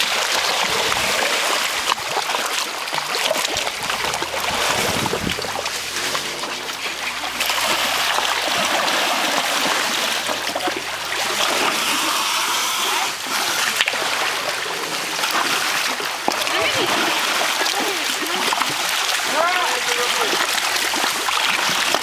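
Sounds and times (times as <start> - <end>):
elephant splashing in water: 0.0 - 22.0
river water rushing: 0.0 - 22.0.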